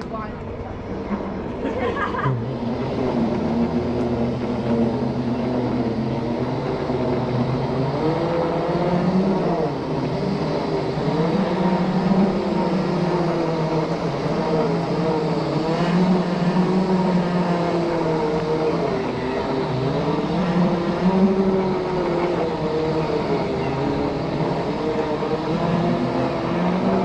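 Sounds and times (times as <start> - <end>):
electric scooter drive whining: 0.0 - 27.0
steady rushing noise: 0.0 - 27.0.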